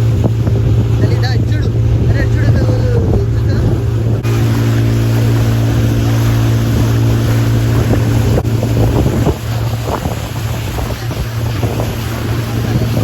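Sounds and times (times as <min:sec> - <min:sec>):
motorboat engine humming: 0:00.0 - 0:13.0
wind on microphone: 0:00.0 - 0:13.0.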